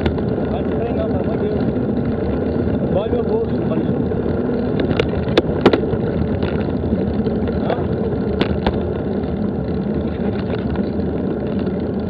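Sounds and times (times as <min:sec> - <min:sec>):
bicycle knocking over rough ground: 0:00.0 - 0:12.0
wind and ride noise: 0:00.0 - 0:12.0.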